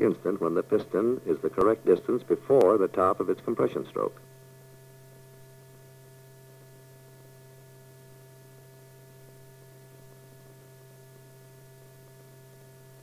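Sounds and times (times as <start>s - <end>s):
faint high steady tones: 0.0s - 13.0s
low electrical hum: 0.0s - 13.0s.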